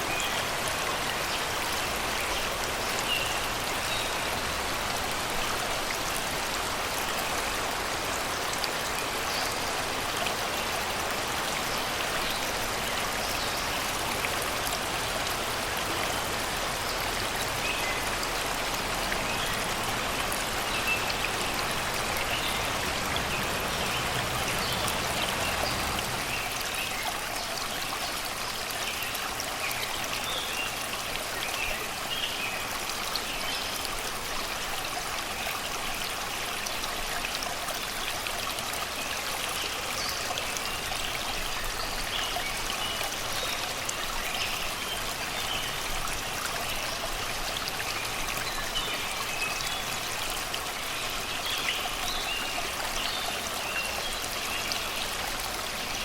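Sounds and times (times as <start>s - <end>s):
river babbling over rocks: 0.0s - 56.0s.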